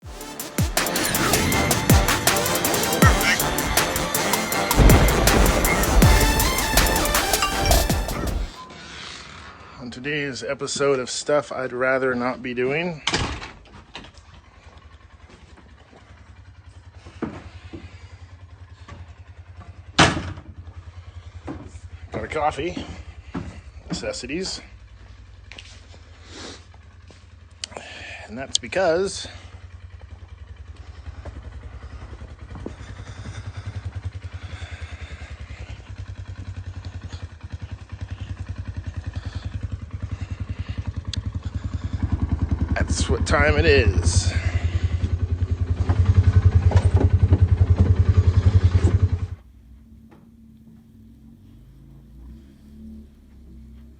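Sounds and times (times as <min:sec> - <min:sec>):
engine idling: 0:00.0 - 0:09.6, 0:11.5 - 0:53.9.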